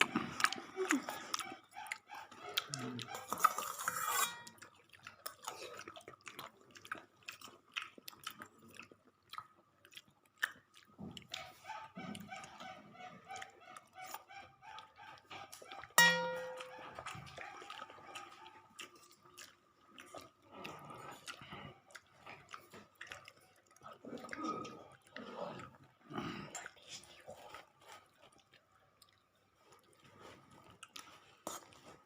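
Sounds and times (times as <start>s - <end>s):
chewing crunchy food: 0.0s - 32.0s.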